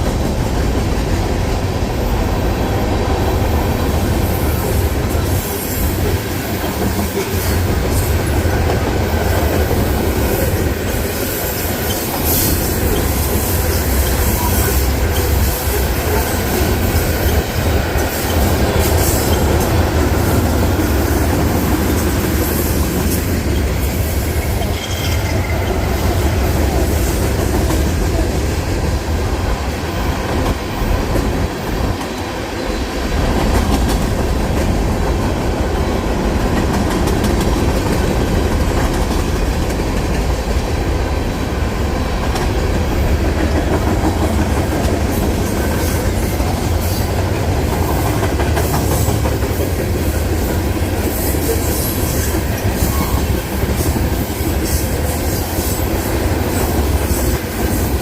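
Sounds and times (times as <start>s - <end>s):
train cars rumbling on rails: 0.0s - 58.0s.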